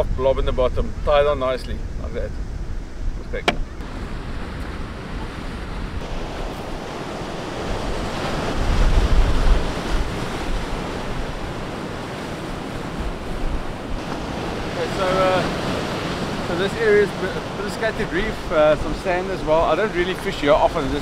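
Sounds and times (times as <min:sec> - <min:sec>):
wind buffeting microphone: 0:00.0 - 0:21.0
surf breaking on rocky shore: 0:03.4 - 0:21.0.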